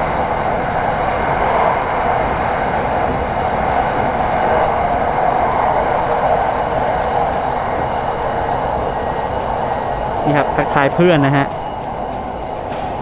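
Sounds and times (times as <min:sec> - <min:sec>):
electric train running: 0:00.0 - 0:13.0.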